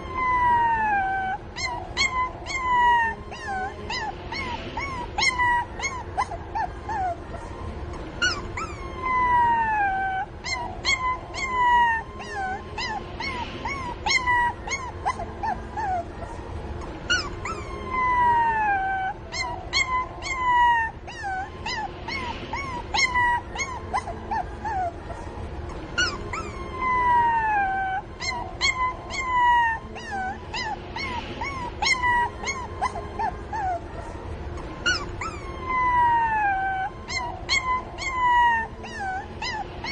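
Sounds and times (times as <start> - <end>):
puppies squealing and whining: 0.0 - 39.9.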